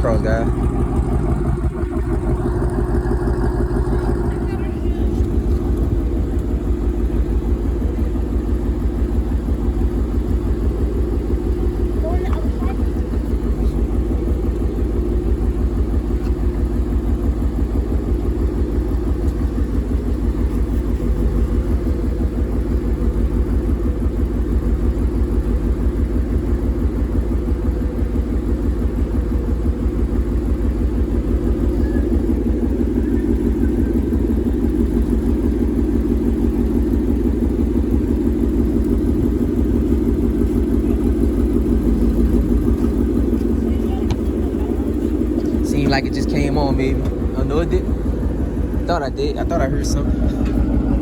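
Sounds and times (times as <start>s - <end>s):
car engine running through loud exhaust: 0.0s - 51.0s.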